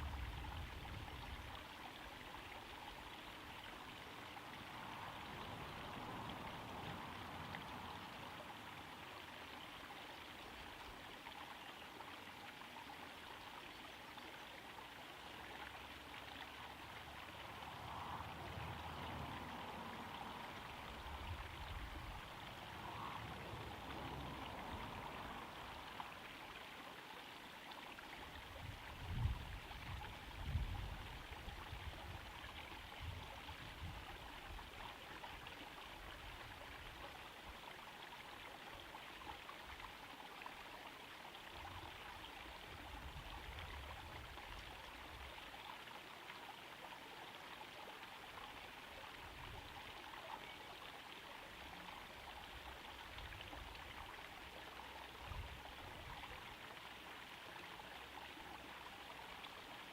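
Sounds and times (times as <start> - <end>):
waterfall trickling into pond: 0.0 - 59.9.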